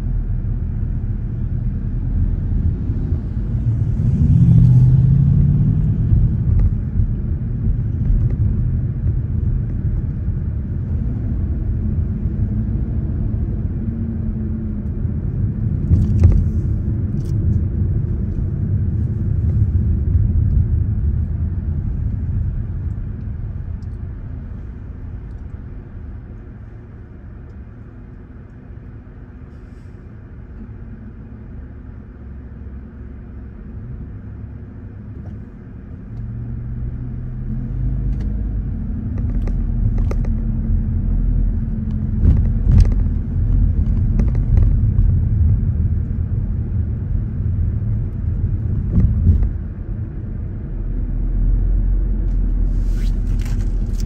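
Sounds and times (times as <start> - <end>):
car road rumble from inside: 0.0 - 54.0.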